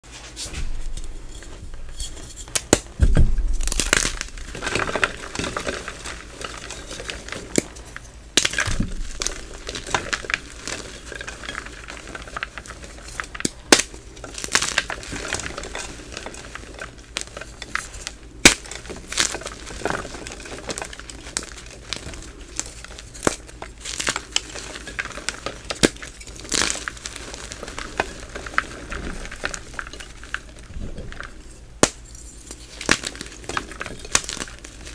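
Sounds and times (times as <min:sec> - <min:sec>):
hands crushing chalk blocks: 0:00.9 - 0:34.9.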